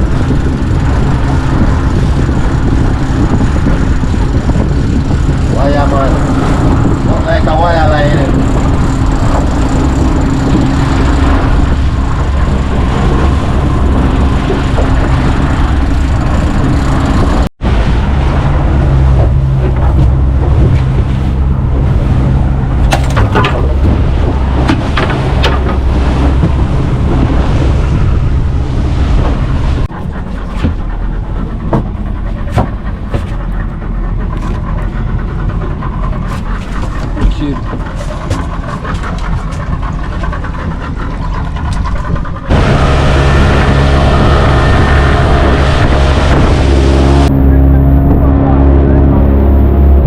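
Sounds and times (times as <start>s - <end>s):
boat engine rumbling: 0.0s - 50.0s
wind noise on microphone: 0.0s - 50.0s.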